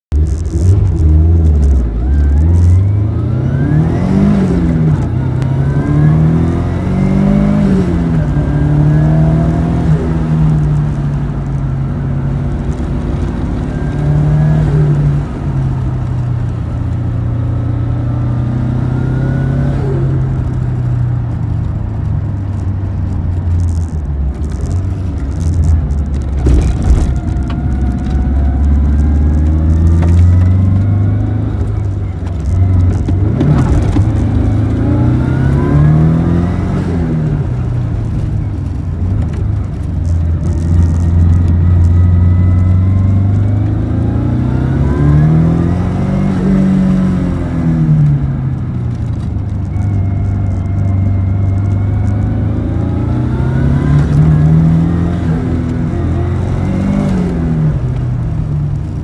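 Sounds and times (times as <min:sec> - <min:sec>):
car engine accelerating hard: 0:00.2 - 0:59.0.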